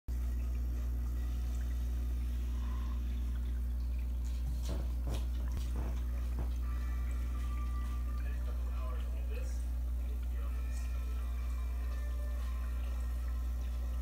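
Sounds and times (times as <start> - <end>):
low electrical hum: 0.1 - 14.0
water dripping: 0.1 - 14.0.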